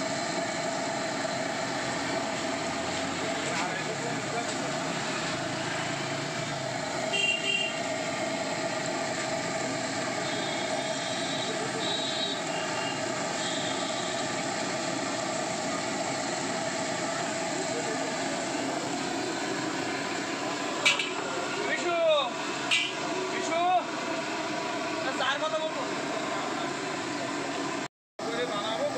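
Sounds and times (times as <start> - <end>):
hot oil sizzling: 0.0 - 28.9
stove burner roaring: 0.0 - 28.9.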